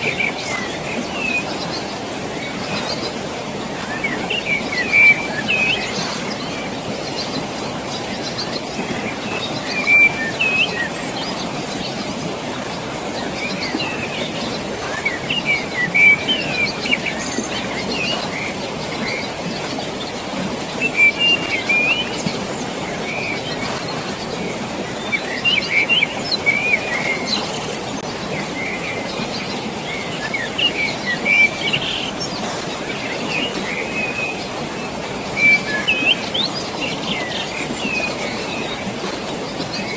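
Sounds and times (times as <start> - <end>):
rushing water: 0.0 - 39.9
small birds chirping: 0.0 - 39.9.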